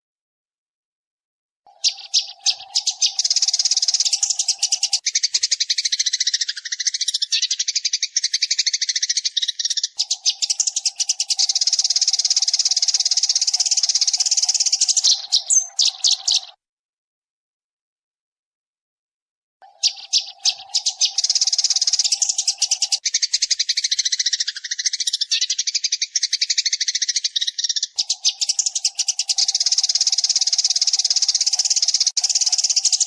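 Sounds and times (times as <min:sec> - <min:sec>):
sparrows chirping: 0:01.7 - 0:16.6, 0:19.6 - 0:33.0.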